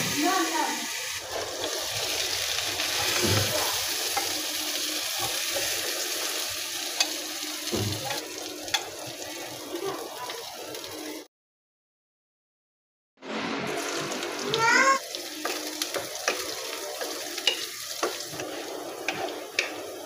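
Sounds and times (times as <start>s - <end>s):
meat sizzling in hot oil: 0.0s - 11.2s, 13.7s - 20.0s.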